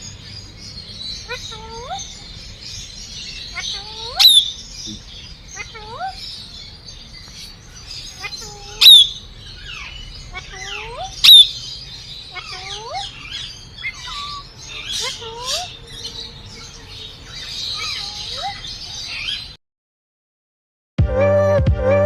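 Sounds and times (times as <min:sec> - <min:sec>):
birds whistling and chirping: 0:00.0 - 0:19.6
loud shrill bird call: 0:00.0 - 0:19.6.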